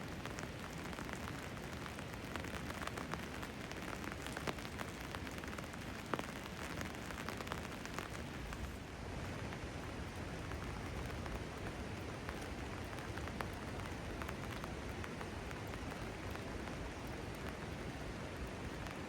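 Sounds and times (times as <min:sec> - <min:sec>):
rain drops ticking: 0:00.0 - 0:19.0.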